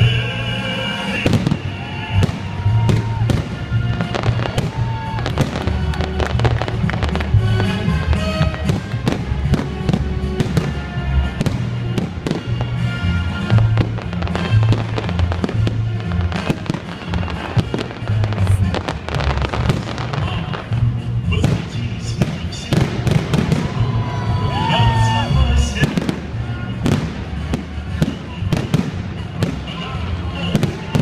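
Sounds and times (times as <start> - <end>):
fireworks bangs and crackles: 0.0 - 31.0
music with deep bass: 0.0 - 31.0.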